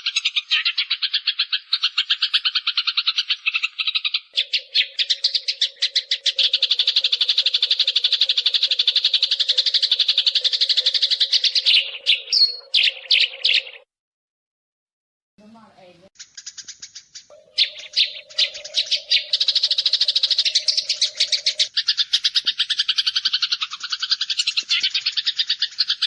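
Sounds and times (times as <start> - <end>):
sparrow chirping: 0.0 - 13.8, 16.2 - 26.0.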